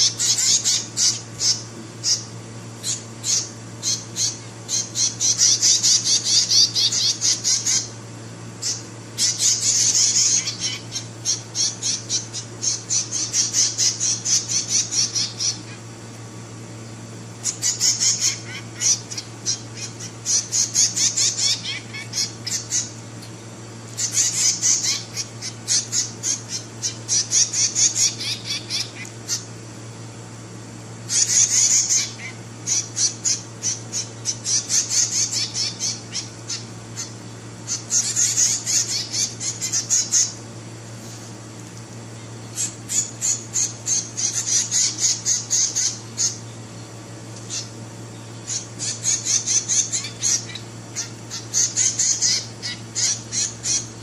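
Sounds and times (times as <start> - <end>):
nestlings begging chirps: 0.0 - 54.0
steady low hum: 0.0 - 54.0.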